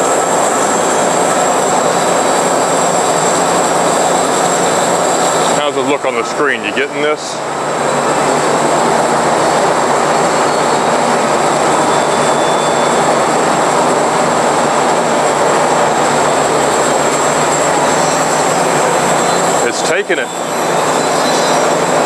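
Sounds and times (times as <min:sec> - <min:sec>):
high whine: 0:00.0 - 0:22.0.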